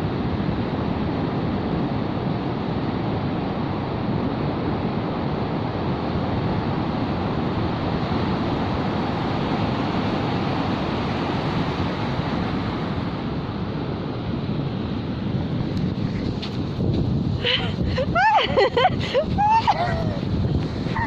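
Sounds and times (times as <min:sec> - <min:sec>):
sea surf rushing: 0:00.0 - 0:21.0
wind on microphone: 0:00.0 - 0:21.0.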